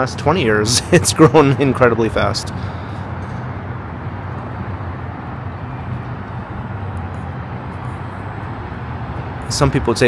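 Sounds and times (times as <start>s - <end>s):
distant city traffic hum: 0.0s - 10.0s.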